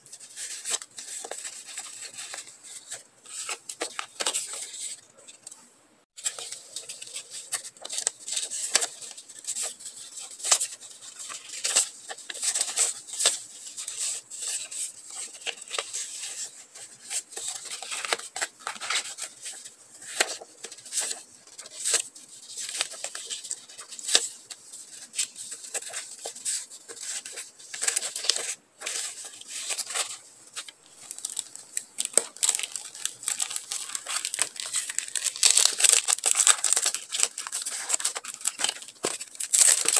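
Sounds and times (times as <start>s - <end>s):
plastic sleeves crinkling: 0.0s - 5.6s, 6.2s - 39.9s
paper rustling and flicking: 6.2s - 39.9s.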